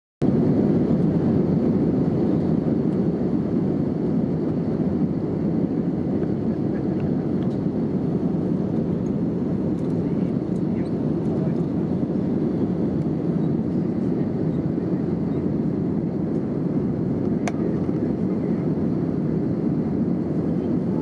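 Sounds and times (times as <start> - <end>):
airplane cabin engine rush: 0.2 - 21.0.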